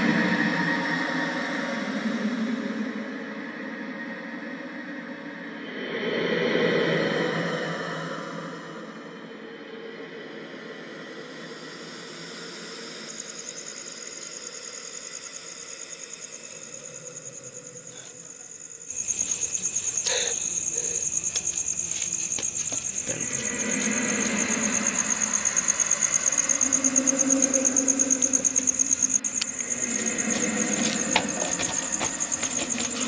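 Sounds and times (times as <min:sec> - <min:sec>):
crickets chirping: 0:00.0 - 0:06.0, 0:08.6 - 0:33.0.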